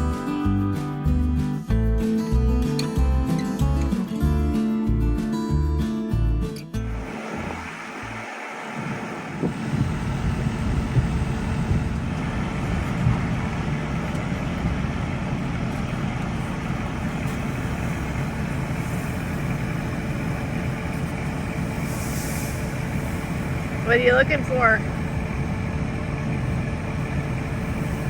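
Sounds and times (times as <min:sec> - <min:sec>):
combine harvester rumble: 0:00.0 - 0:28.0.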